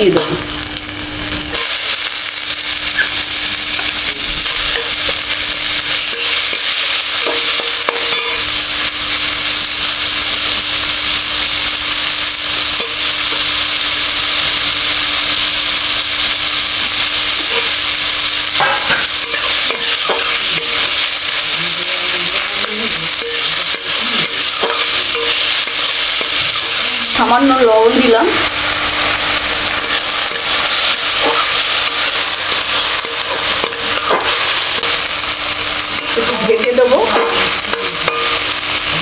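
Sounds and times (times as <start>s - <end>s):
vegetables sizzling in a pan: 0.0s - 39.0s.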